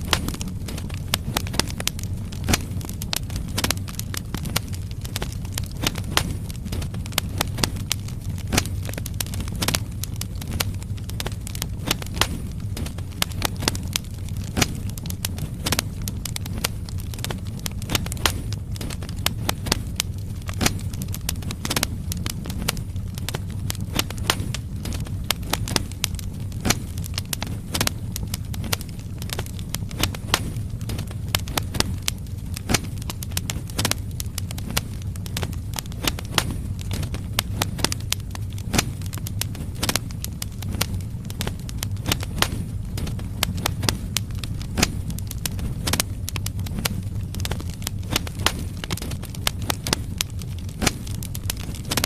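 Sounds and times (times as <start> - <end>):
fire crackling and popping: 0.0 - 52.0
low rumble of flames: 0.0 - 52.0.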